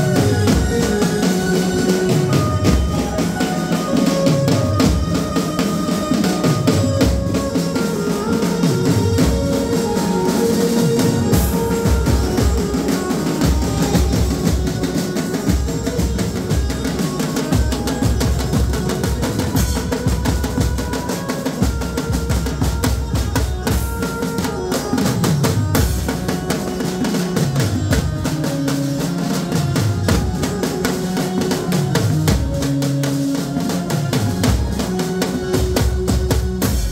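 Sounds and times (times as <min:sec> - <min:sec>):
barrel drums beating: 0:00.0 - 0:36.9.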